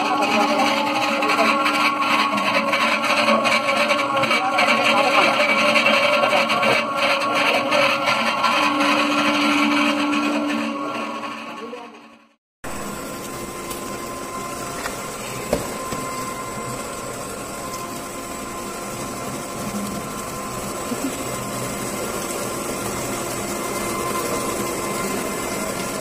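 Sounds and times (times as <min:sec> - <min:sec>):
vegetable slicing machine humming: 0:00.0 - 0:26.0.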